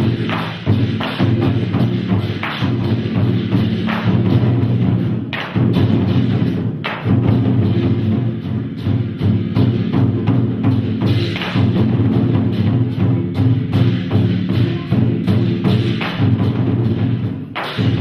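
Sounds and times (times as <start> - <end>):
drums beaten in fast rhythm: 0.0 - 18.0.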